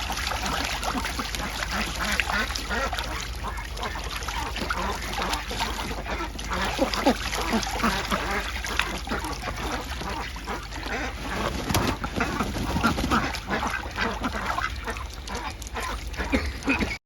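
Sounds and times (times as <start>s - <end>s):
ducks quacking: 0.0s - 17.0s
water splashing: 0.0s - 17.0s.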